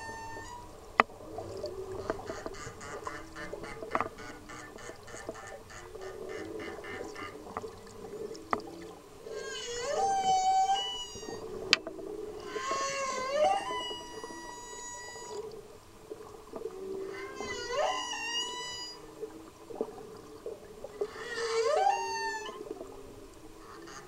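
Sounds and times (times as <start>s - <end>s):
humpback whale song underwater: 0.0s - 24.0s.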